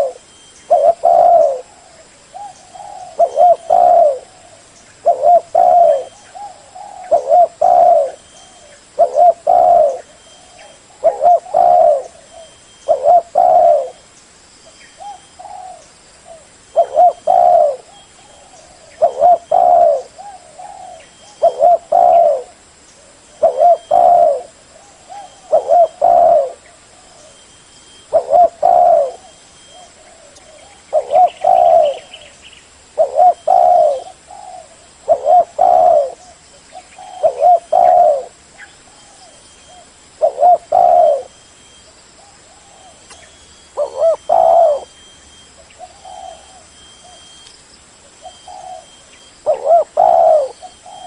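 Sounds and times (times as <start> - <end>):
dove cooing: 0.0 - 14.0, 15.0 - 32.4, 33.0 - 41.4, 42.2 - 47.4, 48.1 - 51.0.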